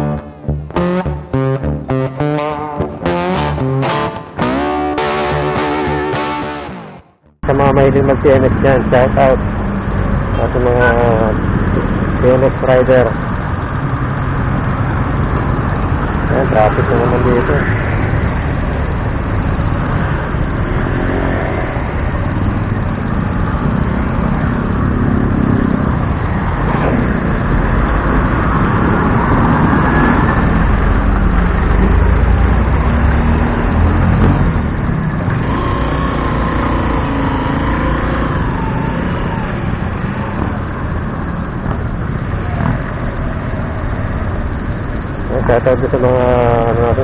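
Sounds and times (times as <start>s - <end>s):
motorcycle engine rumble: 0.0s - 47.0s
surrounding traffic: 0.0s - 47.0s.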